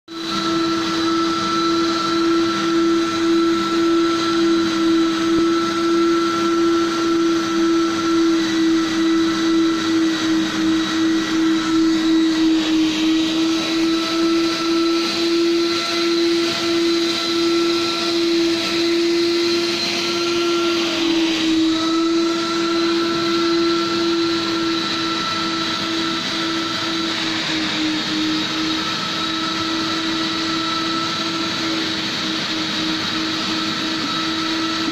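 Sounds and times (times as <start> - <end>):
wet-dry vacuum motor whining: 0.1 - 34.9.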